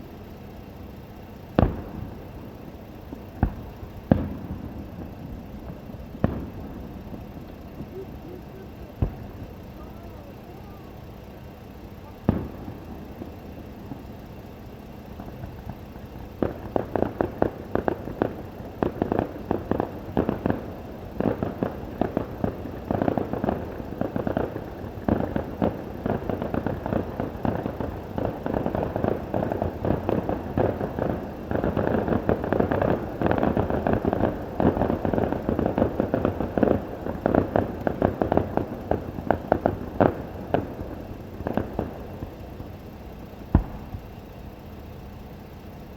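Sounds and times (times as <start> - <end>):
fireworks crackling pops: 0.0 - 45.9.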